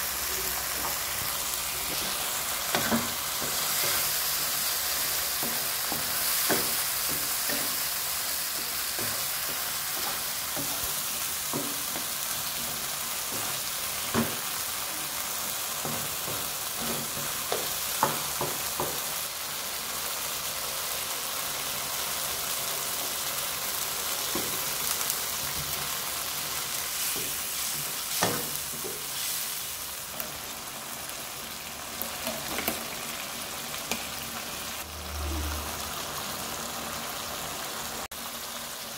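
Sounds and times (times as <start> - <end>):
sauce sizzling in a wok: 0.0 - 38.9.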